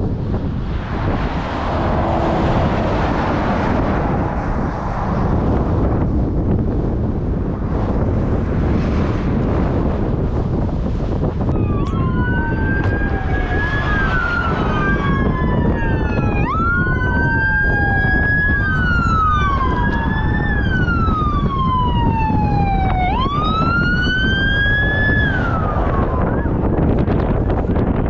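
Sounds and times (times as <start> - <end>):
wind noise: 0.0 - 28.0
sirens wailing: 0.1 - 6.8, 10.5 - 28.0.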